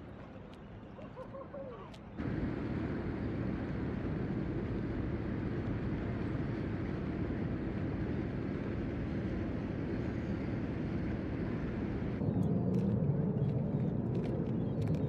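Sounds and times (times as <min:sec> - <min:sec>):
boat engine rumble: 0:00.0 - 0:15.0
waterfront ambience: 0:00.0 - 0:15.0.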